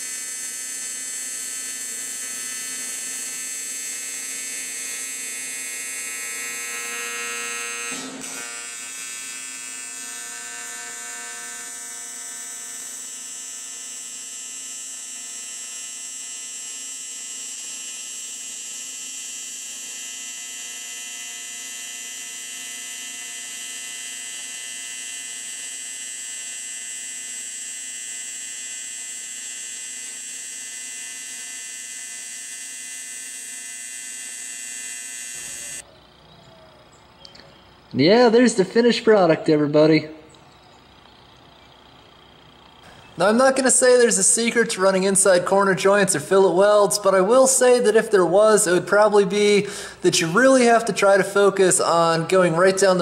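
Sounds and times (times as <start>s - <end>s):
welding arc buzzing: 0.0s - 36.3s, 37.6s - 53.0s.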